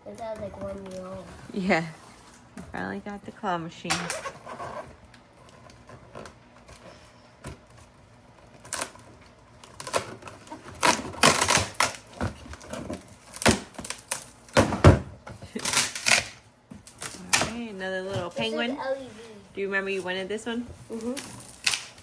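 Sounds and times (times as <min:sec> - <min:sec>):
boxes and packaging handled: 0:04.0 - 0:22.0.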